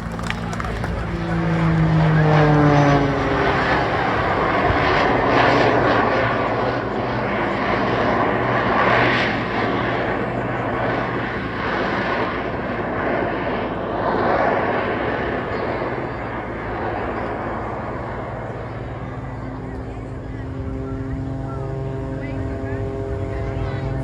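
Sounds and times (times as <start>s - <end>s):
aircraft engine roar: 0.0s - 24.0s.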